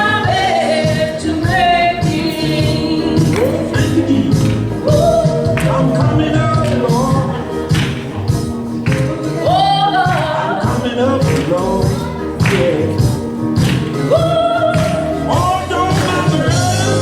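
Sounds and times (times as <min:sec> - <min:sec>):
steady beat: 0:00.0 - 0:16.8
gospel song with lead singer: 0:00.0 - 0:17.0.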